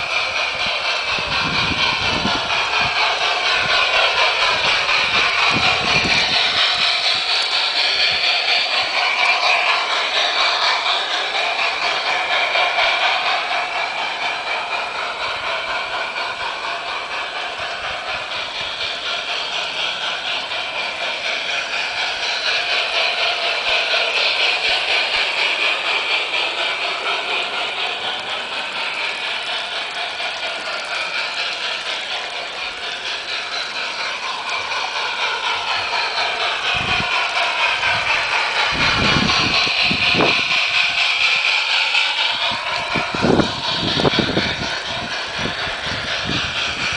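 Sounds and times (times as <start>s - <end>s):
model train motor whirring: 0.0s - 46.9s
wheels clicking on rail: 0.0s - 46.9s.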